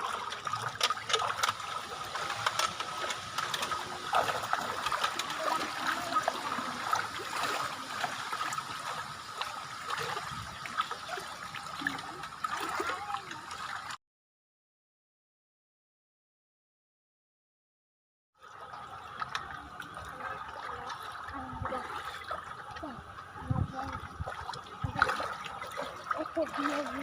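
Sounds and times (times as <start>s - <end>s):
river water trickling and splashing: 0.0s - 14.0s, 18.4s - 27.0s.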